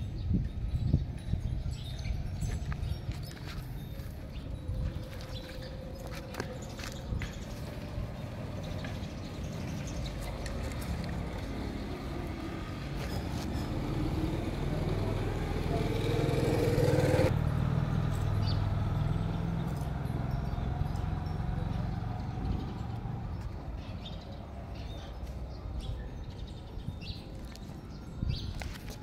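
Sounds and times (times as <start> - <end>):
vehicle engine rumble: 0.0 - 29.0.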